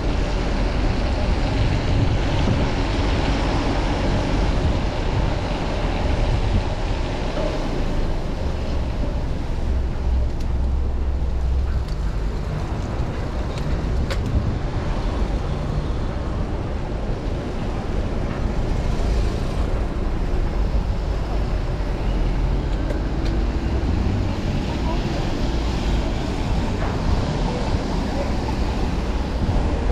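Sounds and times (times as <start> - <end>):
traffic on wet streets: 0.0 - 29.9
wind rumble on microphone: 0.0 - 29.9.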